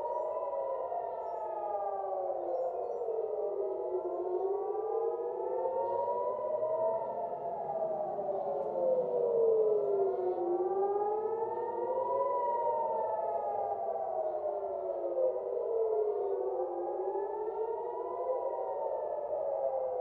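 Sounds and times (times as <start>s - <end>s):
air raid sirens wailing: 0.0s - 20.0s.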